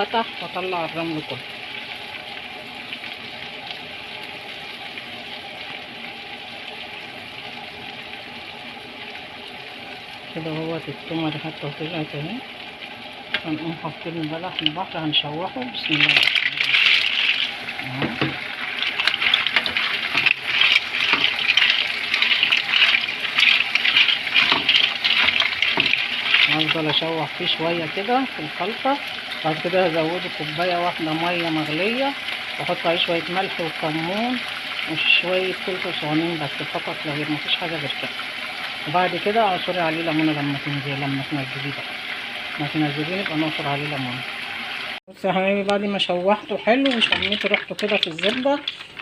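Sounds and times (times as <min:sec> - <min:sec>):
garlic sizzling in a pan: 0:00.0 - 0:45.0.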